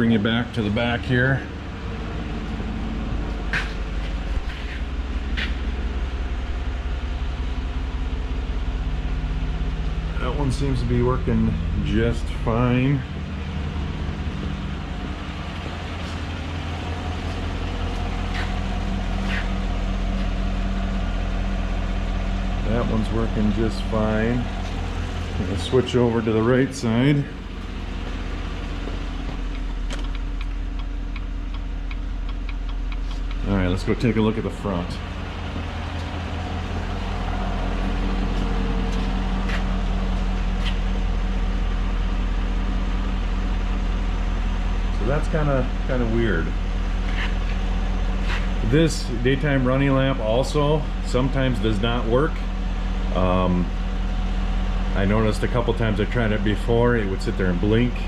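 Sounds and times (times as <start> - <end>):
engine idling: 0.0 - 58.0
faint engine ticks: 0.0 - 58.0.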